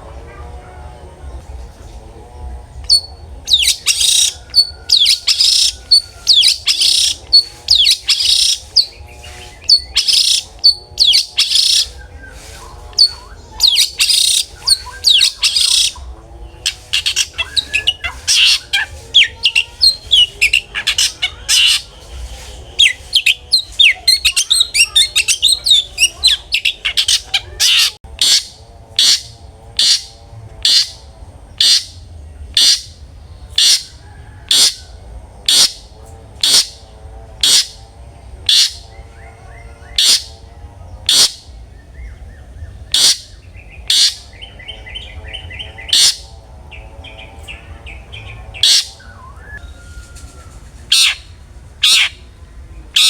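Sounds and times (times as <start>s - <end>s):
shrike singing harsh calls: 2.6s - 53.0s.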